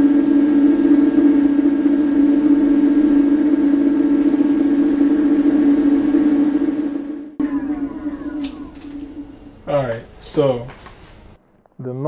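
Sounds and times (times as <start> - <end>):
electric scooter motor humming: 0.0 - 11.3.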